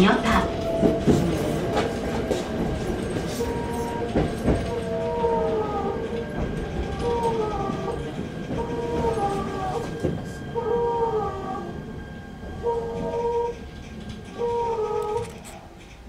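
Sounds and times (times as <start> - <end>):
wheels clicking over rail joints: 0.0 - 10.5, 13.0 - 16.0
electric train running noise: 0.0 - 16.0.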